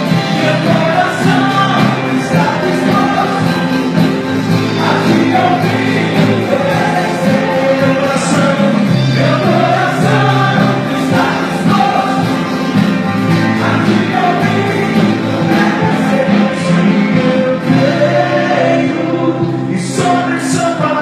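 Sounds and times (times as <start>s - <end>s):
group singing worship music: 0.0s - 21.0s
instrumental backing: 0.0s - 21.0s.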